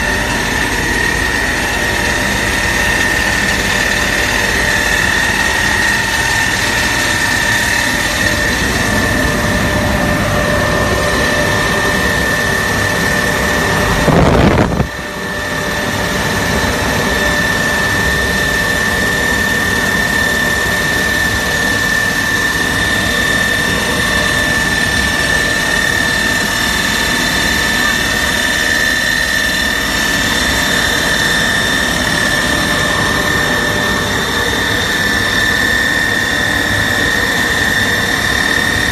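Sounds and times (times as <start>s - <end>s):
grinding mill running with whine: 0.0s - 38.9s.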